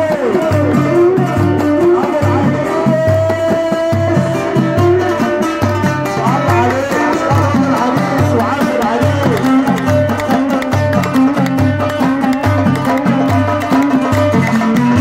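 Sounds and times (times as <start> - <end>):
plucked string instruments: 0.0 - 15.0.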